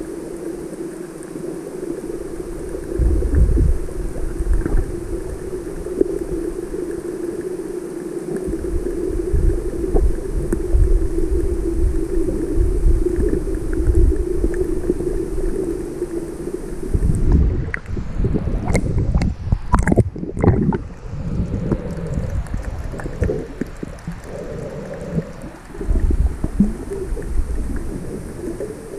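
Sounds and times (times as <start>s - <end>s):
muffled underwater drone: 0.0s - 28.9s
water splashing and sloshing: 0.0s - 28.9s.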